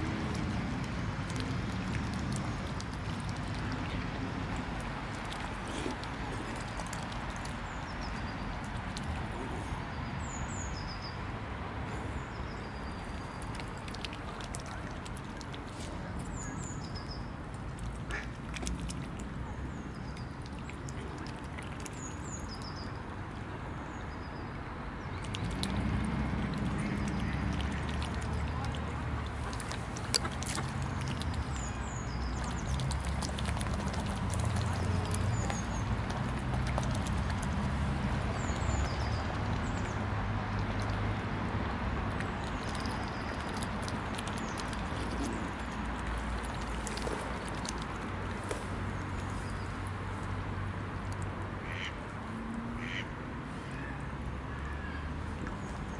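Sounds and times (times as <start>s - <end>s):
swans splashing with bills: 0.0s - 10.0s, 12.0s - 23.6s, 25.0s - 53.9s.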